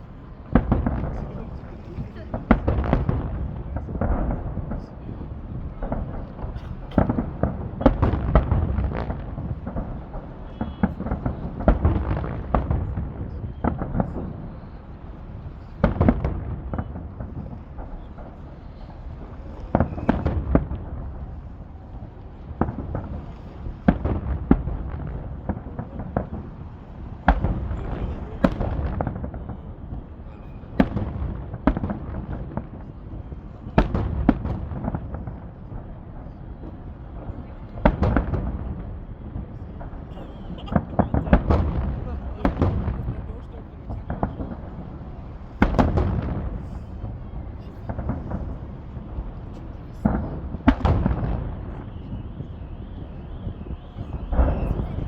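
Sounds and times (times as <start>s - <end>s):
fireworks booming and cracking: 0.0s - 55.0s.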